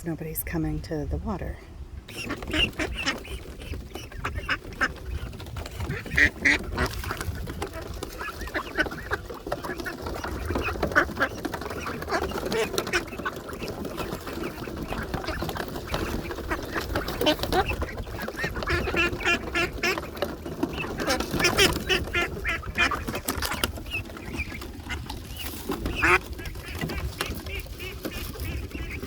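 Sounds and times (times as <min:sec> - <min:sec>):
ducks quacking: 0:02.1 - 0:29.0.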